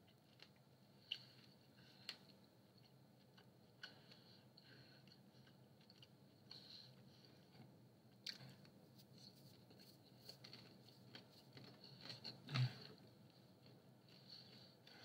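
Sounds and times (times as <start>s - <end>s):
person chewing food: 0.1s - 15.0s.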